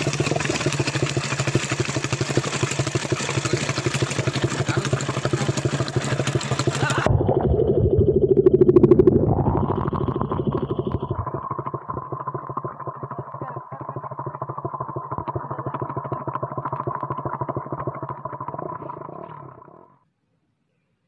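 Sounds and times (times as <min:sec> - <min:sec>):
motorcycle exhaust bubbling under water: 0:00.0 - 0:19.9.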